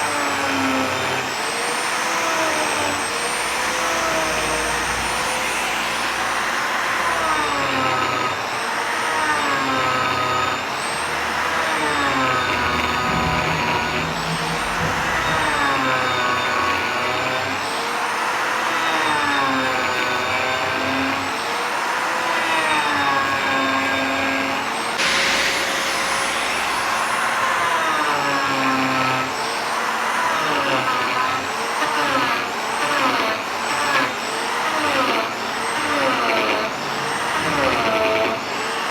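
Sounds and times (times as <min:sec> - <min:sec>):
power tool whining on wood: 0:00.0 - 0:38.9.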